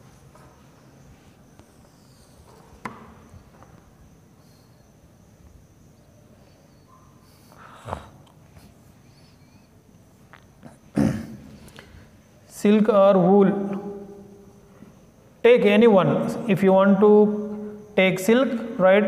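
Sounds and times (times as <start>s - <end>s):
faint high-pitched hum: 0.0s - 19.0s.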